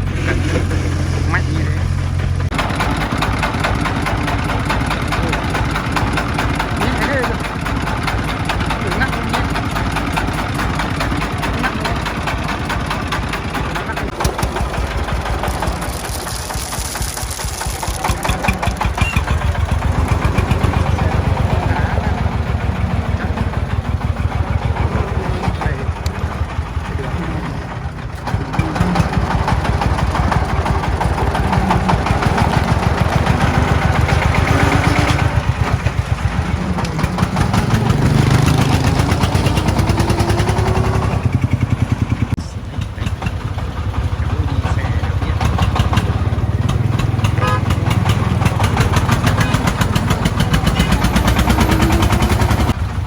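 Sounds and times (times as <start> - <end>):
diesel engine chugging and revving: 0.0 - 53.0.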